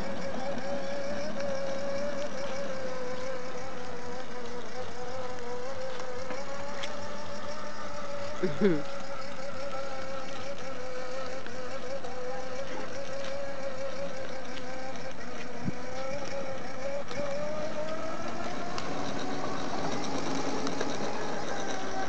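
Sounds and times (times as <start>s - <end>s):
toy electric motor whine: 0.0s - 22.0s.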